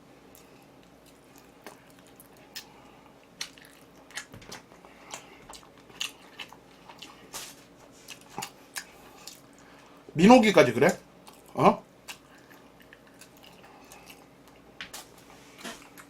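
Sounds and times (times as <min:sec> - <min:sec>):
person chewing food: 0:00.2 - 0:10.0, 0:11.1 - 0:16.0.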